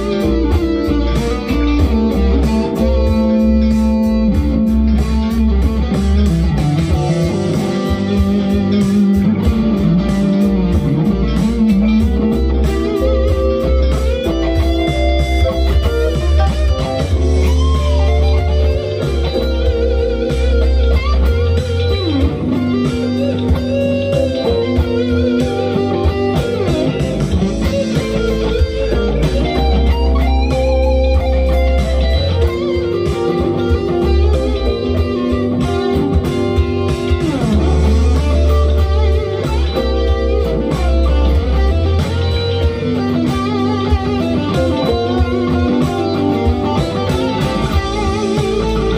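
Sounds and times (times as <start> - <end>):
electric guitar lead lines: 0.0 - 48.9
funk backing track: 0.0 - 48.9.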